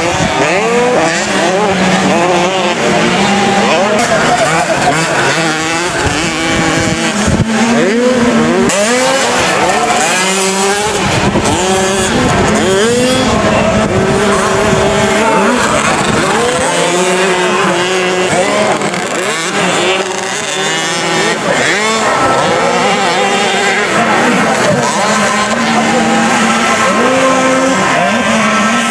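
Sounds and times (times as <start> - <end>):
motocross bikes revving: 0.0 - 28.9.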